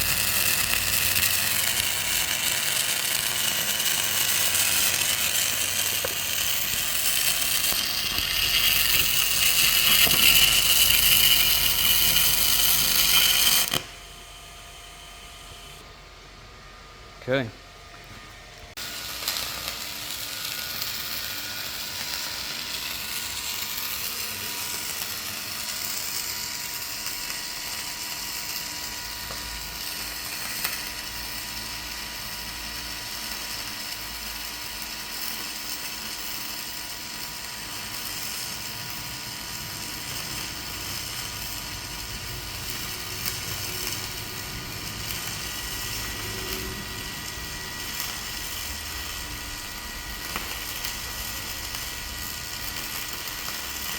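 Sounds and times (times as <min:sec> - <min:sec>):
welding arc crackling: 0:00.0 - 0:15.8, 0:18.8 - 0:53.9.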